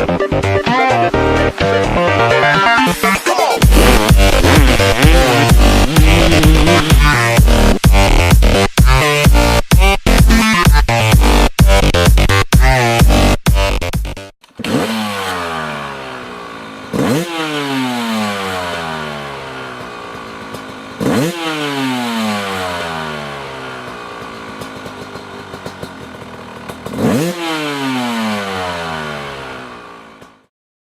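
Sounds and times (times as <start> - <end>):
dirt bike engine revving: 0.0 - 13.8, 14.4 - 30.5.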